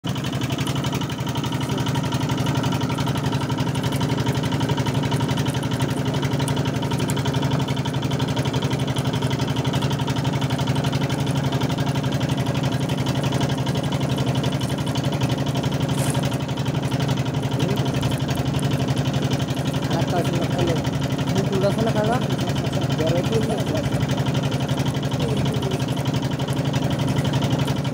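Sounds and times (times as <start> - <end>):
boat engine running steadily: 0.0 - 27.9.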